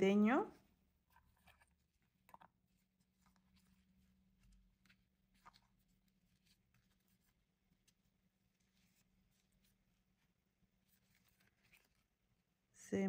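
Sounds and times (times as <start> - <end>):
ribbon rustling: 0.7 - 12.7.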